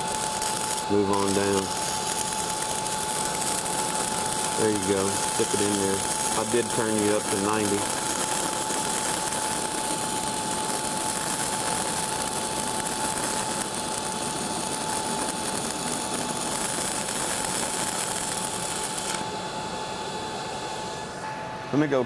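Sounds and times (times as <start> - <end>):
welding arc crackling: 0.0 - 21.2.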